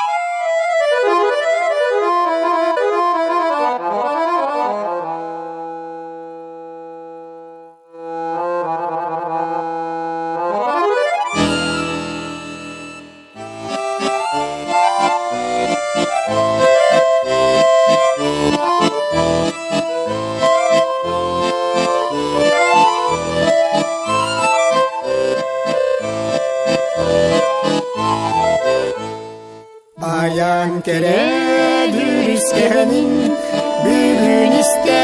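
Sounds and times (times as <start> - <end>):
lively accordion music: 0.0 - 35.0.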